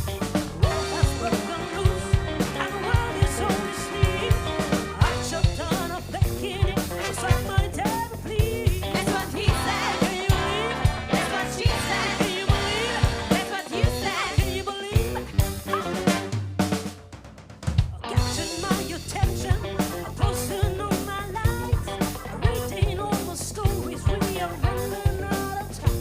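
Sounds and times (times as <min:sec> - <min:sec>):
drum kit beat: 0:00.0 - 0:26.0
funk band playing: 0:00.0 - 0:26.0.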